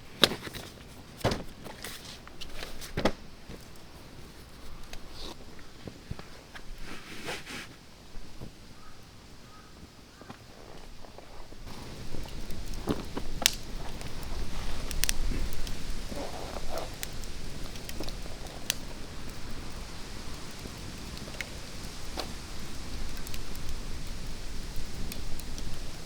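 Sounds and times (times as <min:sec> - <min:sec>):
low hiss: 0:00.0 - 0:26.0
rustling: 0:00.0 - 0:26.0
campfire crackling and popping: 0:00.1 - 0:07.3, 0:10.2 - 0:26.0.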